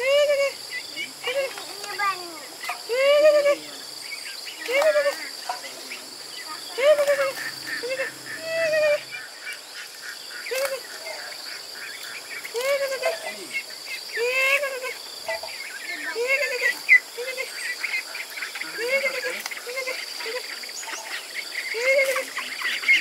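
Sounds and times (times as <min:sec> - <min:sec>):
high insect drone: 0:00.0 - 0:23.0
young ducks calling: 0:00.0 - 0:23.0.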